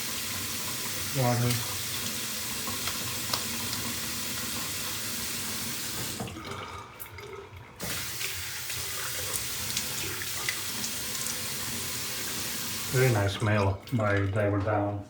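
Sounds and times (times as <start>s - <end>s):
water running from tap into sink: 0.0s - 14.5s.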